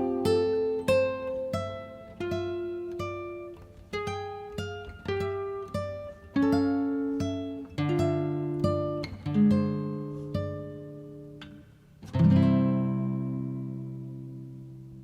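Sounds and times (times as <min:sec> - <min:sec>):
plucked guitar slow melody: 0:00.0 - 0:15.0.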